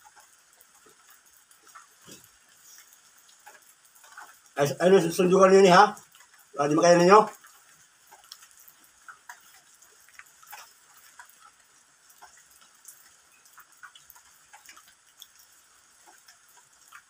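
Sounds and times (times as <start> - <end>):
faint ticks and clicks: 0.0 - 17.0.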